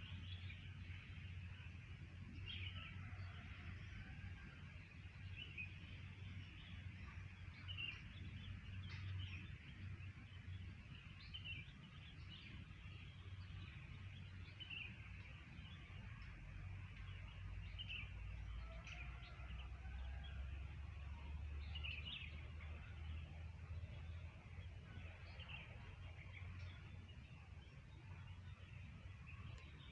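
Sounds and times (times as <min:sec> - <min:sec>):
low steady rumble: 0:00.0 - 0:29.9.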